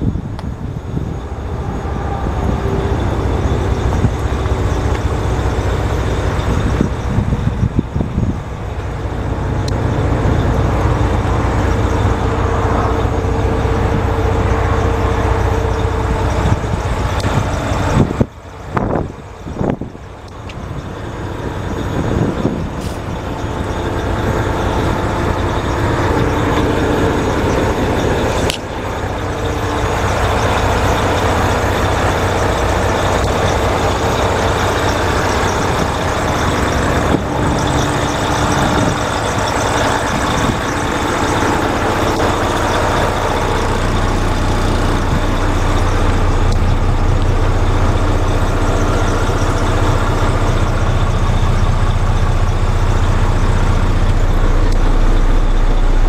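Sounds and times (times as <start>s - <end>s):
truck diesel engine idling: 0.0s - 56.0s.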